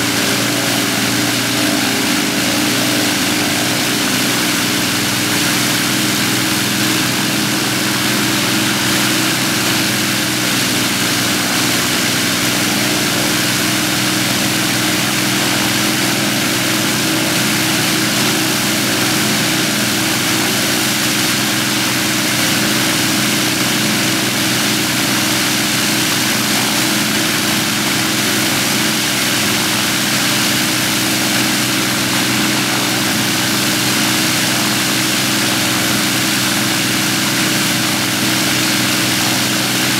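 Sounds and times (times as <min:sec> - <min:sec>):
aircraft engines droning: 0:00.0 - 0:34.8.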